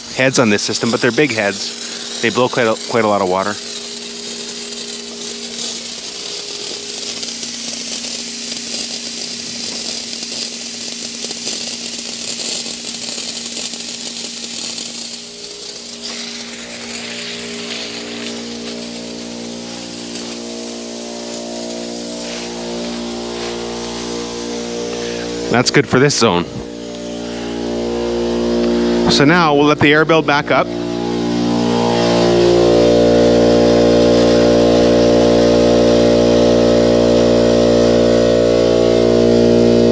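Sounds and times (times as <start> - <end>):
electric air compressor running: 0.0 - 39.9
sprinkler head hissing: 0.0 - 39.9.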